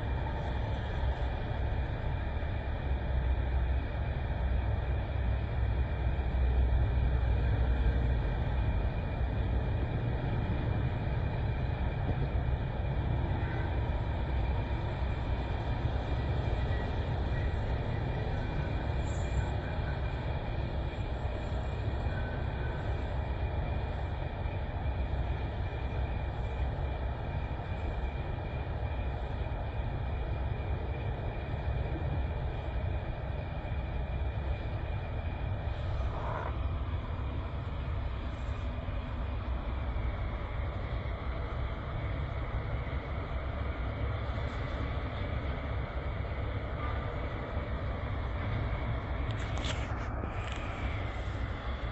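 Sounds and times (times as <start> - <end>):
truck diesel engine low rumble: 0.0 - 51.9.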